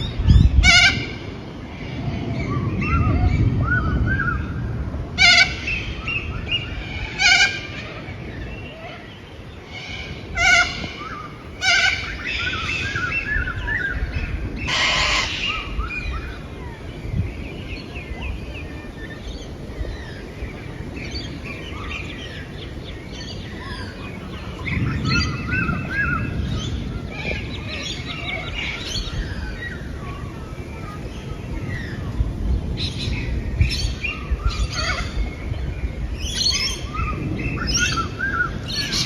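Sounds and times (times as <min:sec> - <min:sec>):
harsh bird calls: 0:00.0 - 0:04.6, 0:05.2 - 0:39.0
birds twittering: 0:00.0 - 0:39.0.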